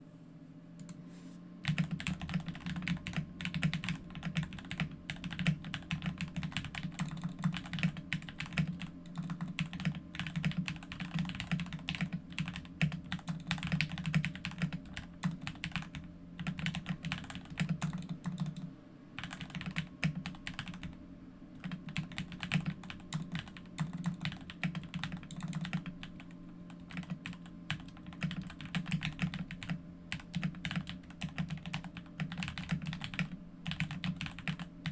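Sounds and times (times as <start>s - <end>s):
mechanical keyboard typing: 1.6s - 21.0s, 21.6s - 34.9s.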